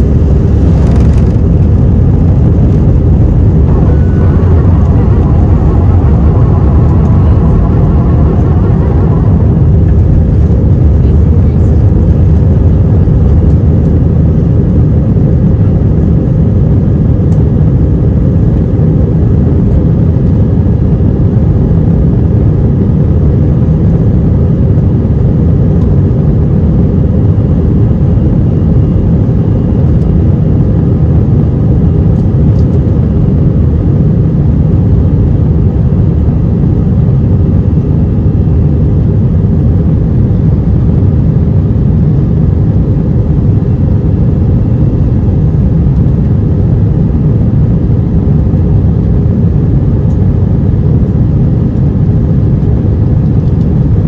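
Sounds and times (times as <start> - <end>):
faint high whine: 0.0 - 54.0
jet engine cabin rumble: 0.0 - 54.0.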